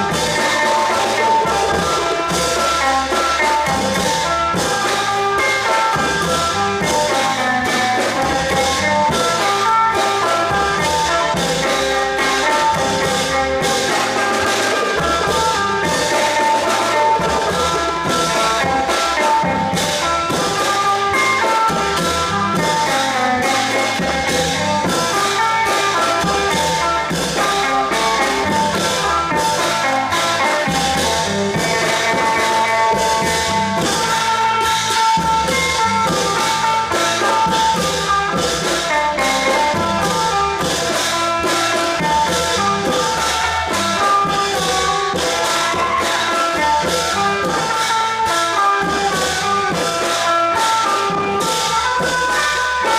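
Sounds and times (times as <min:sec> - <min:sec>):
drum beat: 0:00.0 - 0:52.9
percussion: 0:00.0 - 0:52.9.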